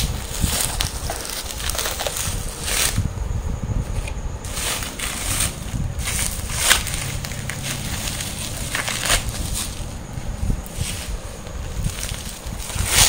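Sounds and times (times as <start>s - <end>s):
bubble wrap crinkling: 0.0s - 3.0s, 4.5s - 10.0s, 10.6s - 13.0s.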